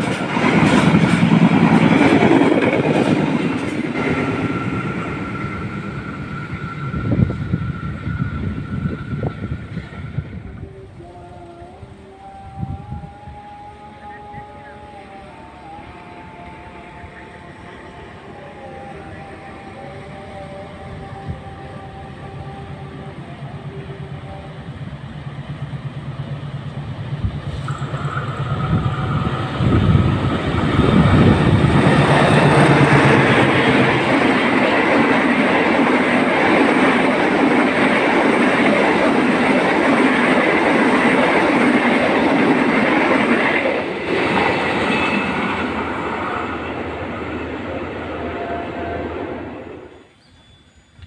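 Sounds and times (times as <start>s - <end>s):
train wheels rumbling on rails: 0.0s - 12.2s, 21.1s - 50.0s
locomotive engine drone: 0.0s - 50.0s.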